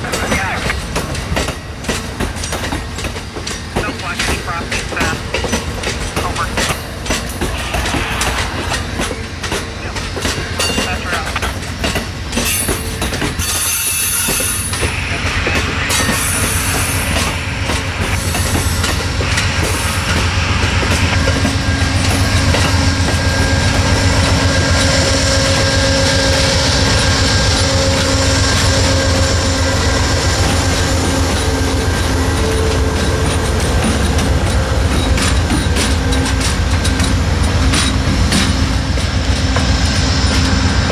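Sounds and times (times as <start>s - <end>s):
diesel locomotives: 0.0s - 40.9s
train rumbling past: 0.0s - 40.9s.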